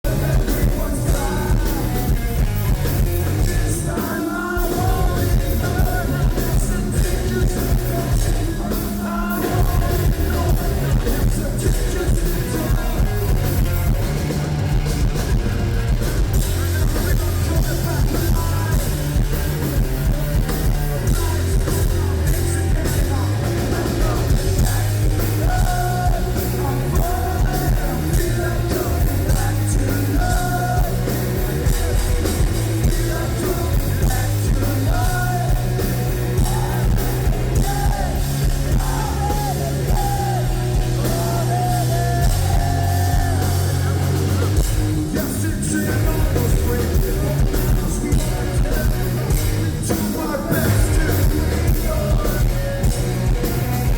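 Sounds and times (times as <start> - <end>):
person singing: 0.0 - 14.4, 15.0 - 53.9
rock band playing live: 0.0 - 53.9.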